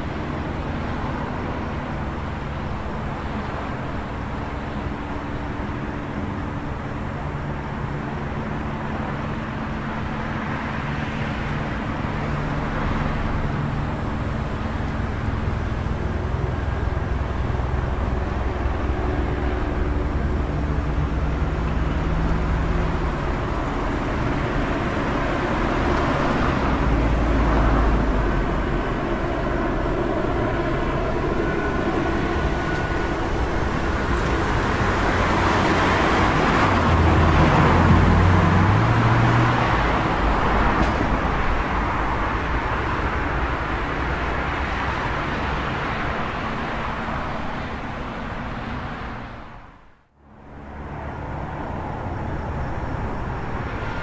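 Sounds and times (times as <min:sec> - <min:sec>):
cars passing: 0:00.0 - 0:54.0
low engine hum: 0:00.0 - 0:54.0.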